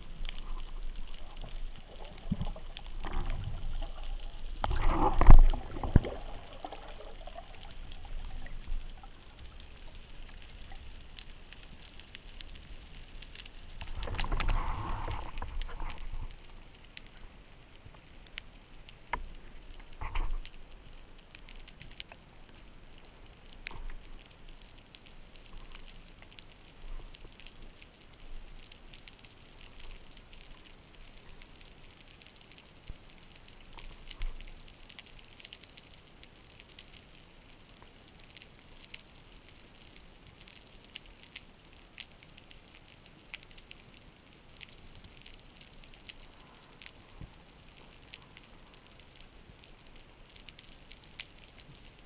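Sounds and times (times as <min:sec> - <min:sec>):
underwater crackle of tiny clicks: 0:00.0 - 0:52.0.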